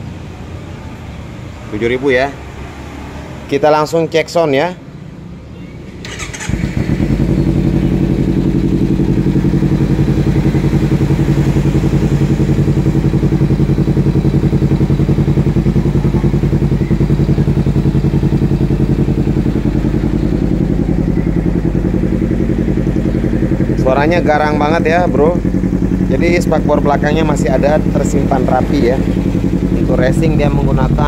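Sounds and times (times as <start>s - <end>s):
motorcycle engine idling: 5.0s - 31.0s
motorcycle engine starting: 5.8s - 31.0s.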